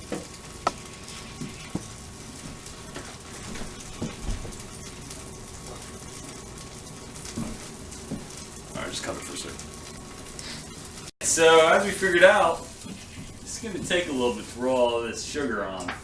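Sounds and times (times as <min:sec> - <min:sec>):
bread sizzling in a frying pan: 0:00.0 - 0:16.0.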